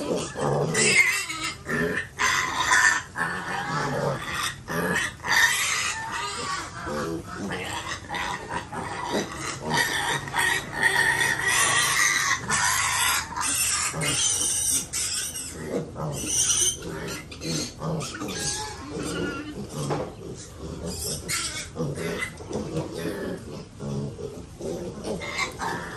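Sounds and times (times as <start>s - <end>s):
piglets squealing and grunting: 0.0s - 25.9s.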